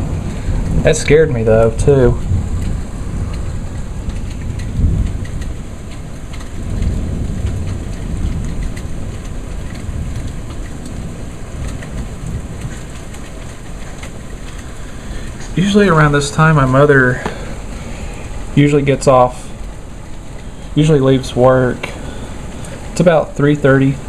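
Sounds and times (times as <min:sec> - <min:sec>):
hail ticking: 0:00.0 - 0:24.0
rain pouring: 0:00.0 - 0:24.0
thunder rumble: 0:00.0 - 0:24.0.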